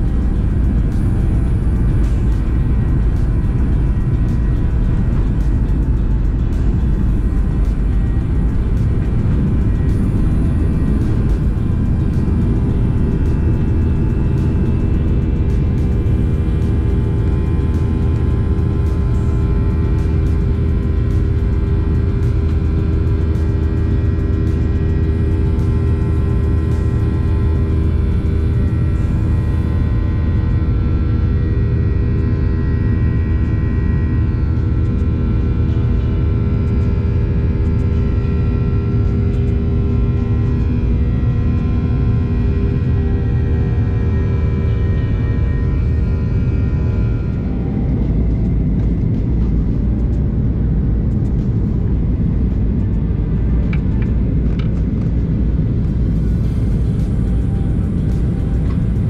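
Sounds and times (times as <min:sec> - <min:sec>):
jet engine rumble and airflow: 0:00.0 - 0:59.0
whining engine tones: 0:00.0 - 0:59.0.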